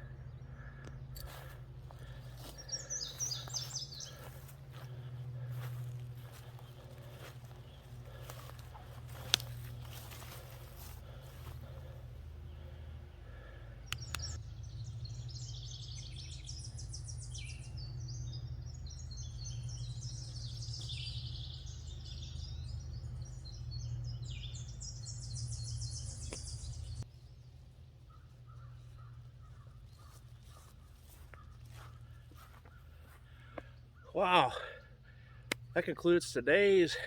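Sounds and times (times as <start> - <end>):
steady low hum: 0.0 - 35.8
songbirds chirping and trilling: 0.0 - 37.0.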